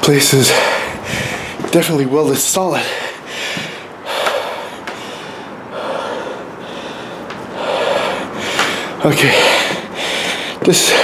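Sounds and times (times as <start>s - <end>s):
man breathing noisily: 0.3s - 1.7s, 2.7s - 11.0s.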